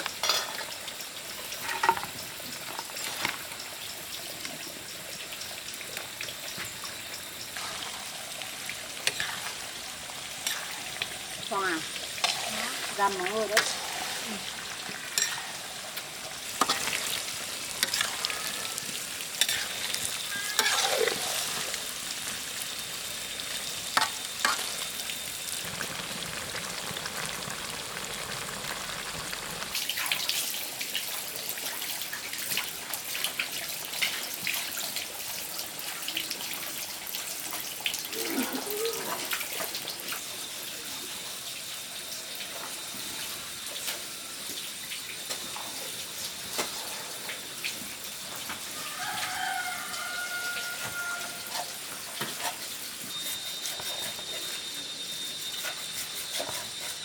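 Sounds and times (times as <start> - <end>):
food sizzling in hot fat: 0.0 - 57.0.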